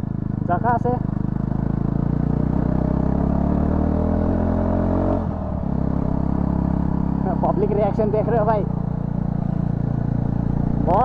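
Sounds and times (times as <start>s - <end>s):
motorcycle engine with open exhaust: 0.0s - 11.0s.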